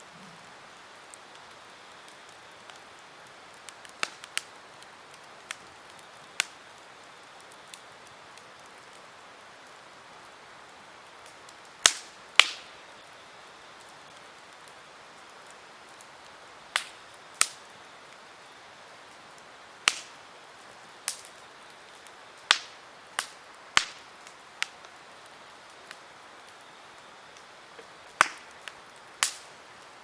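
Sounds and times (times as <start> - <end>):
campfire pops: 0.0 - 30.0
low hiss of burning wood: 0.0 - 30.0.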